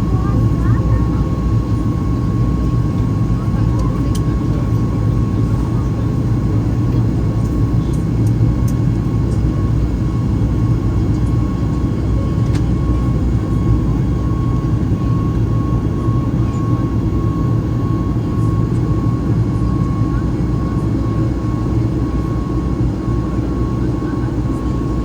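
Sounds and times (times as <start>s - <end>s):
aircraft cabin rumble: 0.0s - 25.0s.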